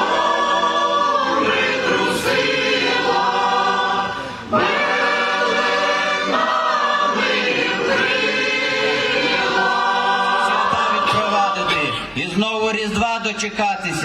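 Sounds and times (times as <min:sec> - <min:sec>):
choir singing a carol: 0:00.0 - 0:12.2.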